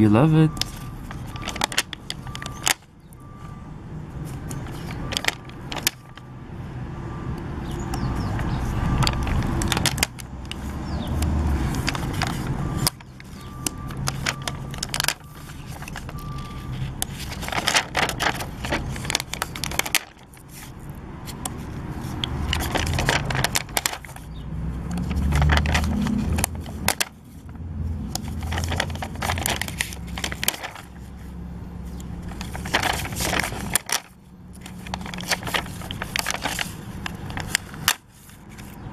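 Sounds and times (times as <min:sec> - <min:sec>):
plastic stickers crackling and peeling: 0:00.0 - 0:03.4, 0:04.2 - 0:06.3, 0:07.7 - 0:38.9.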